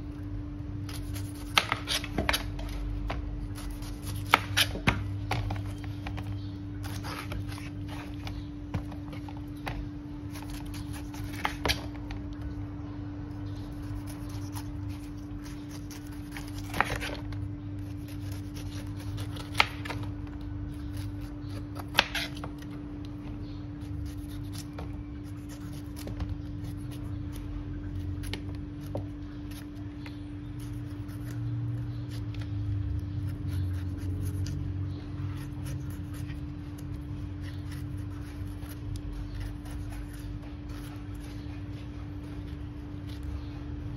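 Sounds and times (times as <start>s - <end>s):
steady hum: 0.0s - 43.9s
knife slicing pineapple rind: 0.8s - 12.2s, 13.4s - 22.8s, 23.4s - 43.8s.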